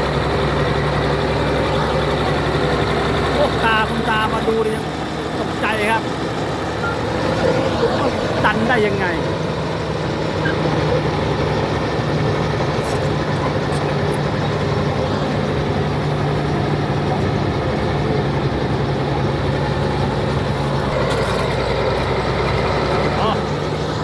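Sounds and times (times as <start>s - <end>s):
bulldozer diesel engine droning: 0.0s - 24.0s.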